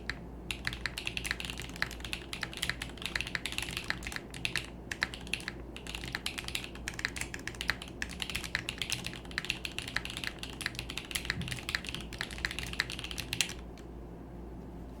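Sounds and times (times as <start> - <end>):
fast typing on mechanical keyboard: 0.0 - 13.8.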